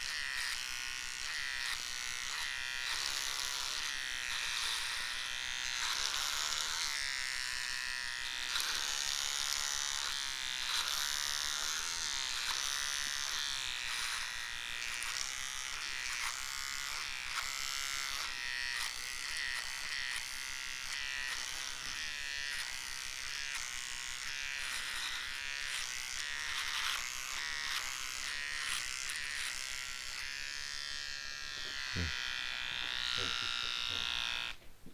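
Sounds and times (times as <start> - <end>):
electric hair trimmer buzzing: 0.0 - 34.6.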